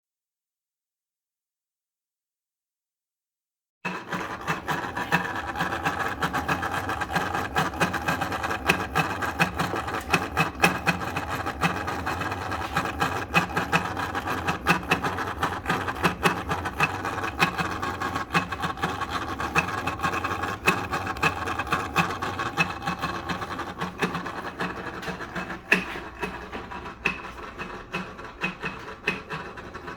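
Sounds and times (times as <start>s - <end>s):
mechanical whirring with rapid ticking: 3.9s - 29.9s.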